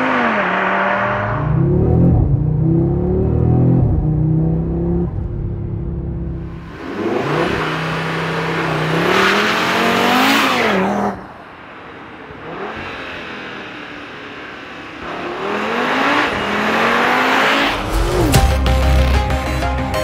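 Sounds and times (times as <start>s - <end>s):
car engine accelerating: 0.0s - 19.7s.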